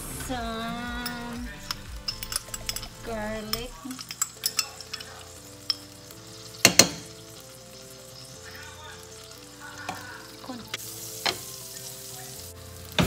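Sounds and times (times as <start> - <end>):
garlic sizzling in hot oil: 1.0 - 13.0.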